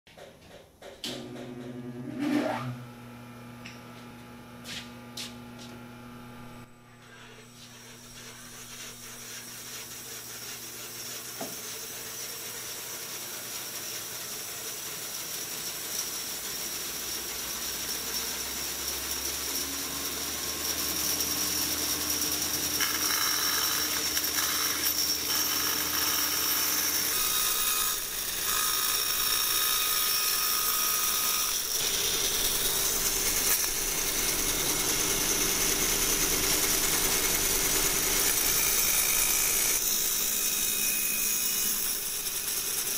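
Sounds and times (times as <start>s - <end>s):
bandsaw running: 1.2s - 42.9s.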